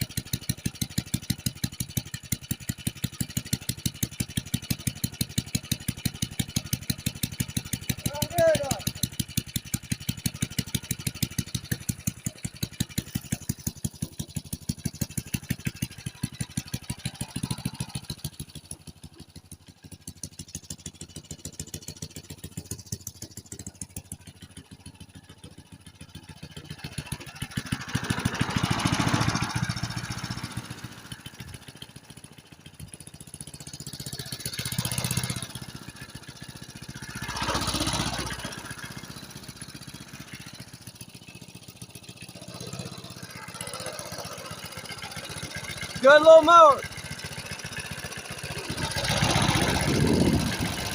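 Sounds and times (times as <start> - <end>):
lawnmower engine running: 0.0 - 50.9.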